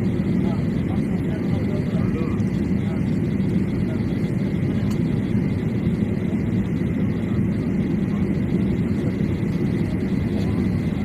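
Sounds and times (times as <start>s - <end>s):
faint steady whine: 0.0s - 11.0s
jet airliner cabin rumble: 0.0s - 11.0s.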